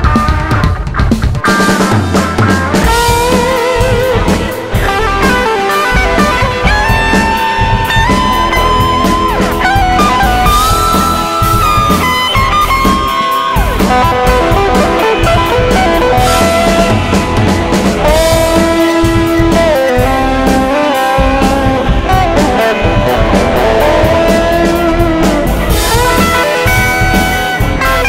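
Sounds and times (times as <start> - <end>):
electric guitar lead: 0.0 - 28.0
rock band backing: 0.0 - 28.0.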